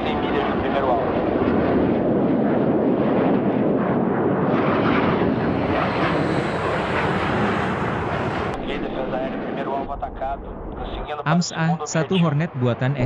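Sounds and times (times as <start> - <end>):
jet engine and airflow rush: 0.0 - 13.0.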